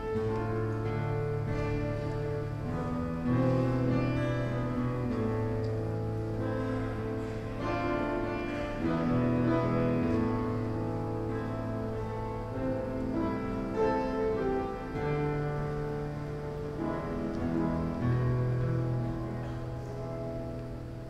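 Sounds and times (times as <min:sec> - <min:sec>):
slow keyboard chords: 0:00.0 - 0:21.0.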